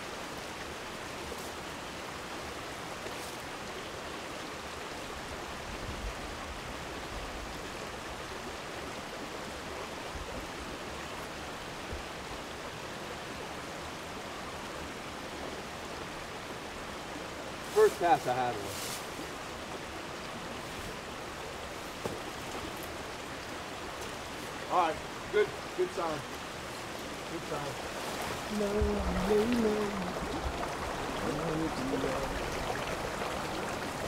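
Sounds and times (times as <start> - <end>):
stream rushing over stones: 0.0 - 34.0.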